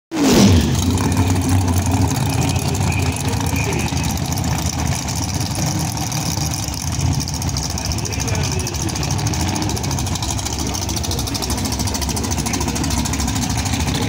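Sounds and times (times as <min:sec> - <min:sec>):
car engine idling: 0:00.4 - 0:14.0.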